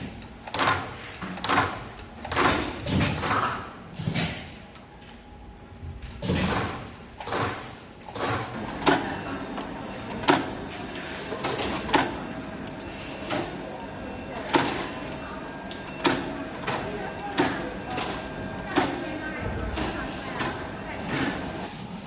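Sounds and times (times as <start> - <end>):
machine mechanical strokes: 0.0 - 4.6, 6.1 - 22.0.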